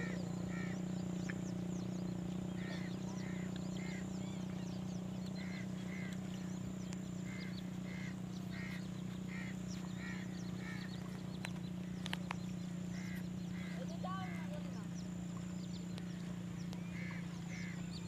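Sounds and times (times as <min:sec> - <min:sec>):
short bird calls: 0:00.0 - 0:18.0
steady low hum: 0:00.0 - 0:18.0.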